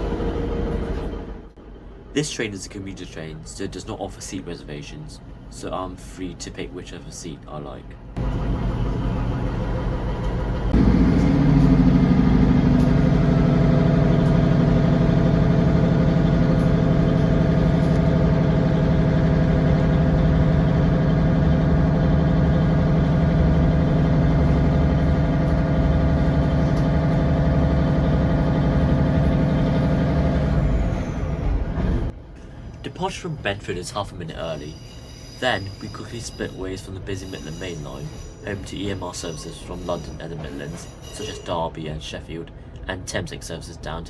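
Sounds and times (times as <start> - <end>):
train diesel engine running: 0.0 - 44.0.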